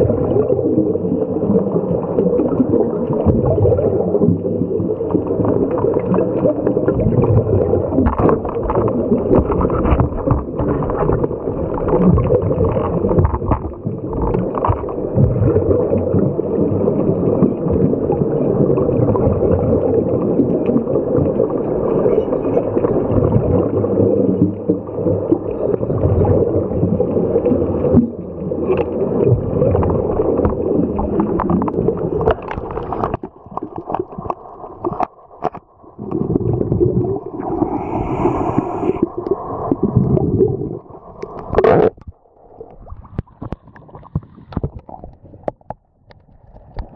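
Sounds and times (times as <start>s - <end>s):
underwater bubbles gurgling: 0.0s - 46.9s.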